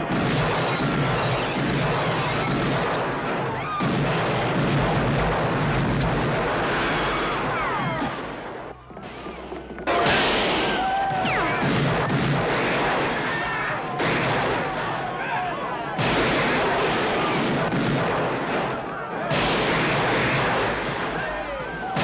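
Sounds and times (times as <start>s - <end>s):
heavy gunfire: 0.0s - 22.0s.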